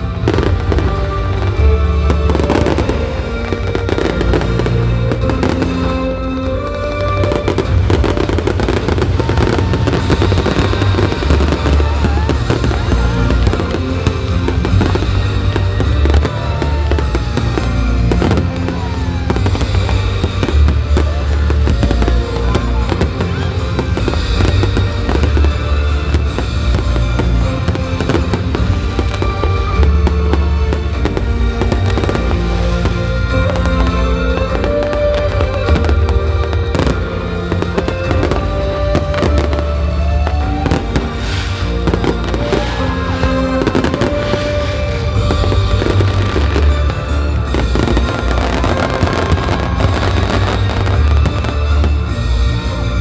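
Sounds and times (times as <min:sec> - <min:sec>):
fireworks bursting and crackling: 0:00.0 - 0:53.0
loud music with heavy bass: 0:00.0 - 0:53.0.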